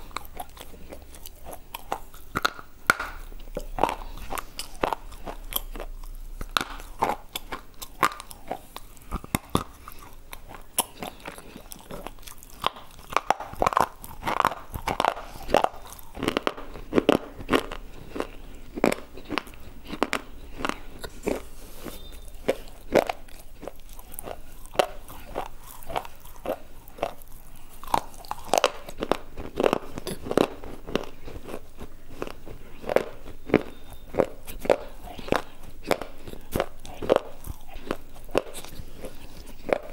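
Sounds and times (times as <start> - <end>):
crunching chewing: 0.0 - 39.9.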